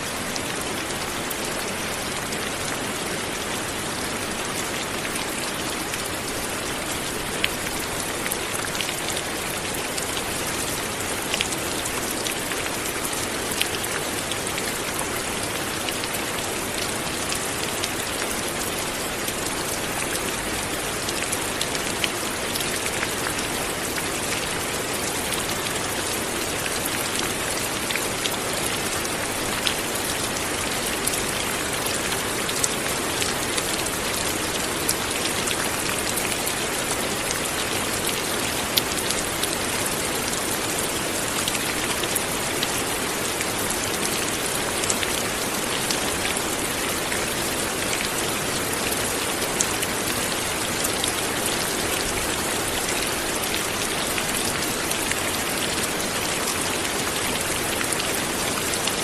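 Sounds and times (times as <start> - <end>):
raindrops ticking on surface: 0.0 - 58.0.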